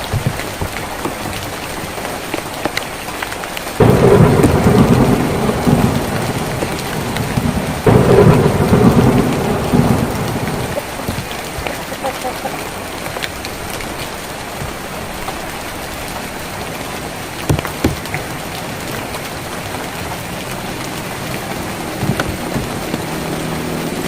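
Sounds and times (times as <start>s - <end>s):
heavy rain on a tin roof: 0.0s - 24.0s
thunder rolling: 3.7s - 24.0s.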